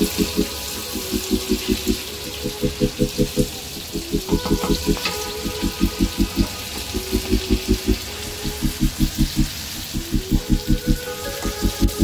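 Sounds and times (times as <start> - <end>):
music with pulsing beat: 0.0 - 12.0
shrimp and vegetables sizzling: 0.0 - 12.0.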